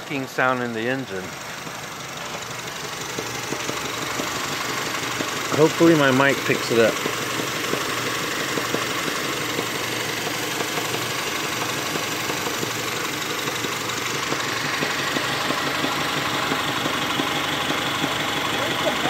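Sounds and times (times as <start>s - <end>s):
car engine idling: 0.0s - 19.0s
engine knocking: 0.0s - 19.0s.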